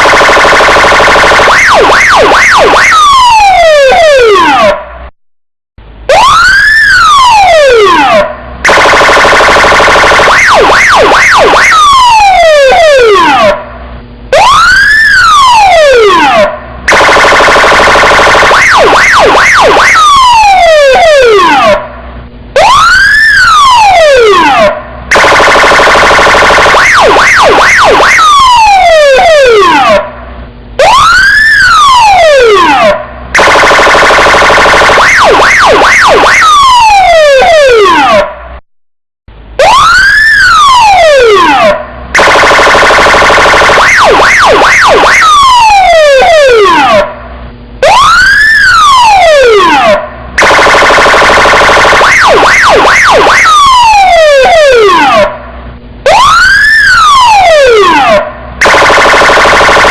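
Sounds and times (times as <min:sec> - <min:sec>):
police car siren: 0:00.0 - 0:05.1, 0:06.1 - 0:38.6, 0:39.5 - 0:59.9.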